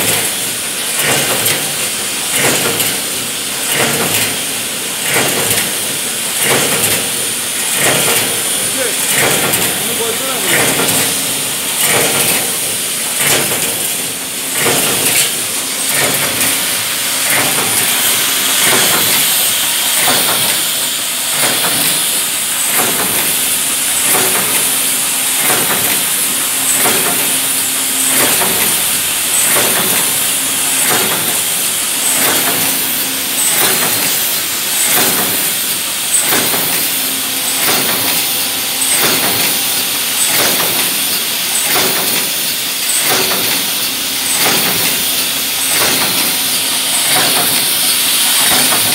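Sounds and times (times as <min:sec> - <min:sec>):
machine hissing: 0:02.2 - 0:48.9.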